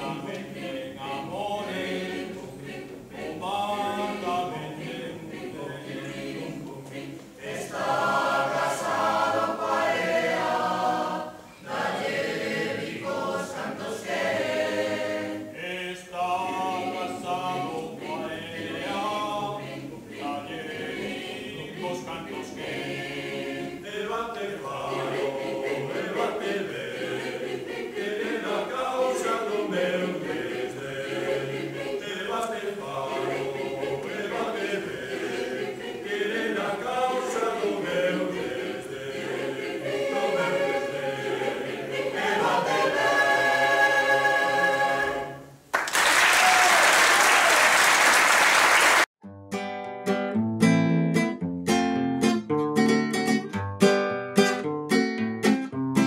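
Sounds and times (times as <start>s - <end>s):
choir singing a cappella: 0.0s - 45.6s.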